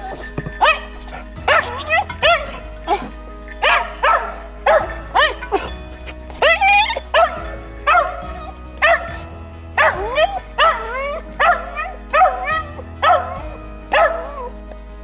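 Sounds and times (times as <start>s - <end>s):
background music: 0.0s - 15.0s
dog barking: 0.6s - 5.7s, 6.4s - 14.5s.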